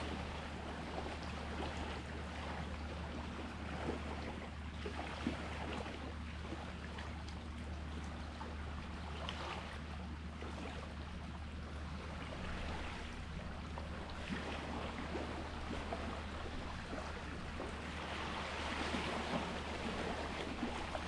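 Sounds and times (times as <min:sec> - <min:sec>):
sea water lapping at shore: 0:00.0 - 0:21.0
steady low hum: 0:00.0 - 0:21.0.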